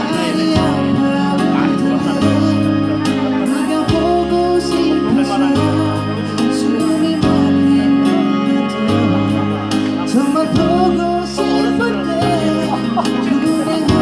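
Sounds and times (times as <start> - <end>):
bass line: 0.0 - 14.0
live band playing: 0.0 - 14.0.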